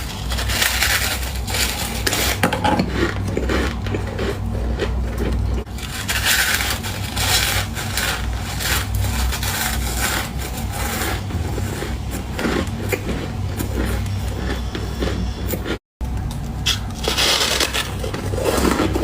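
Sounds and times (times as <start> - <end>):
ice crunching being chewed: 0.0 - 19.0
steady low hum: 0.0 - 19.0.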